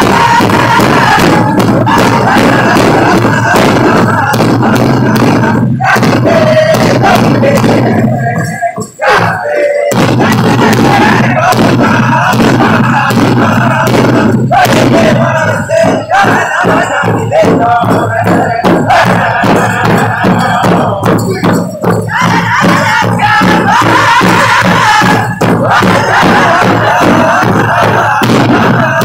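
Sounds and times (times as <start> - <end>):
group singing in high voices: 0.0 - 29.0
large drum beaten in unison: 0.0 - 29.0.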